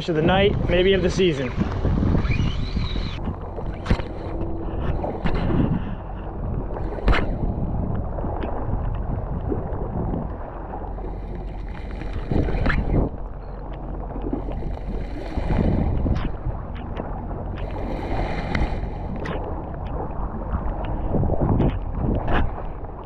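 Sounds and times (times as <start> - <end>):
water lapping: 0.0 - 23.0
wind buffeting microphone: 0.0 - 23.0.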